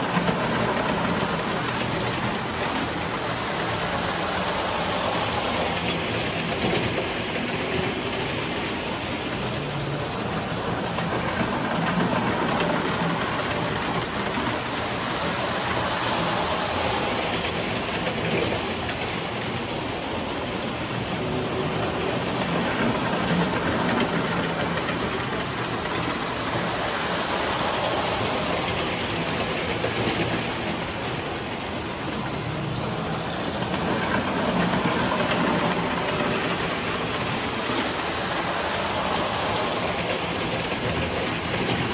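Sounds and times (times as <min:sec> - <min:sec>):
toy train wheels on metal track: 0:00.0 - 0:41.9.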